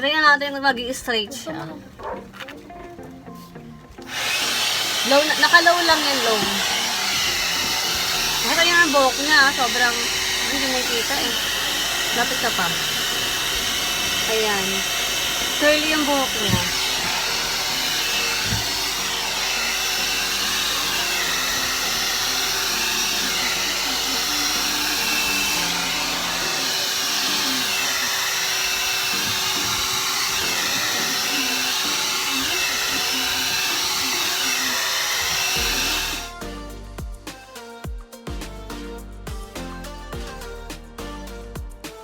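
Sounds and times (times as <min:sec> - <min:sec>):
hair dryer blowing air: 0:04.0 - 0:38.7.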